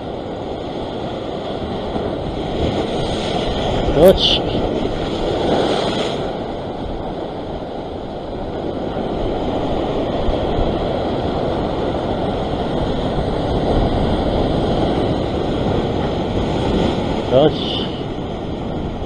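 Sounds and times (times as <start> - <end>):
waves breaking against rock: 0.0 - 19.0
wind buffeting microphone: 0.0 - 19.0.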